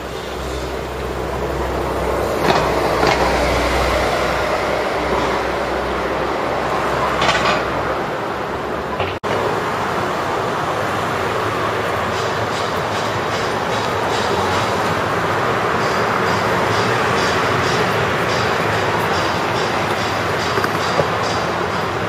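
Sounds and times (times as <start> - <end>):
passing cars and buses: 0.0 - 22.0.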